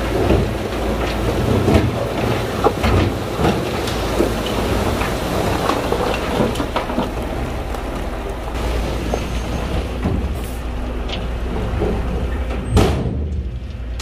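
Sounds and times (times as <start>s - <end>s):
stone and soil clattering: 0.0s - 12.1s
diesel engine running: 0.0s - 14.0s.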